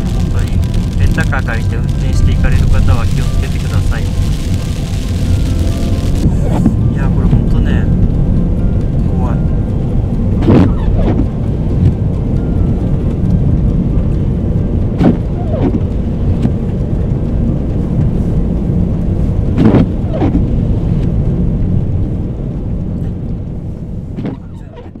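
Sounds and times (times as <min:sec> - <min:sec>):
road and wind rumble: 0:00.0 - 0:25.0
windscreen wipers swishing: 0:00.0 - 0:25.0.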